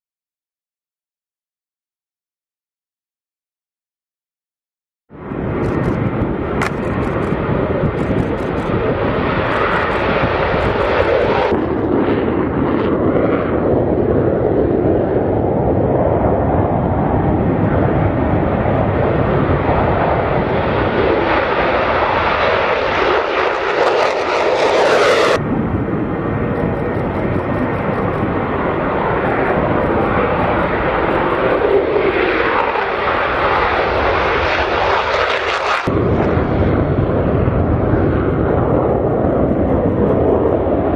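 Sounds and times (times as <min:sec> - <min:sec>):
fighter jets taking off: 0:05.1 - 0:40.9.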